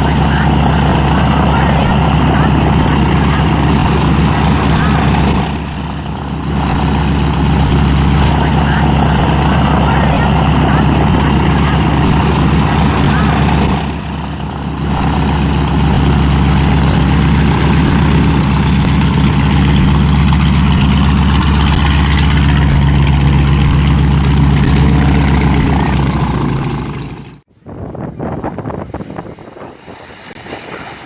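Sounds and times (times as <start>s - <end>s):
faint engine sound: 0.0s - 27.4s
piston aircraft engines running: 0.0s - 31.0s.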